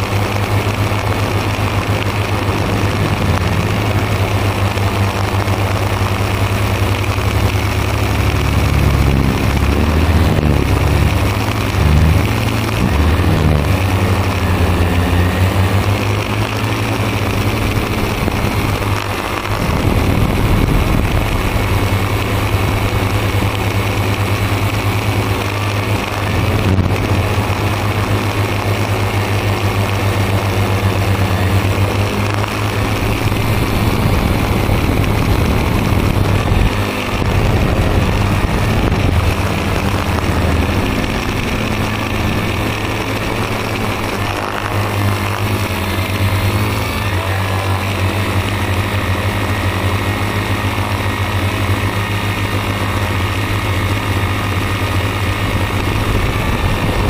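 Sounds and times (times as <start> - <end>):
drone propellers whirring: 0.0 - 57.0.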